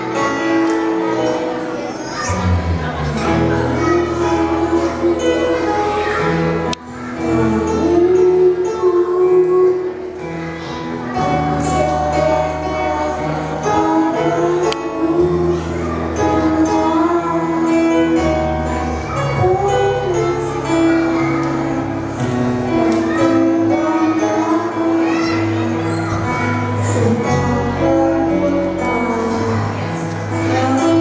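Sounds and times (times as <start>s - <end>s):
children's choir singing a hymn: 0.0s - 31.0s
instrumental accompaniment: 0.0s - 31.0s.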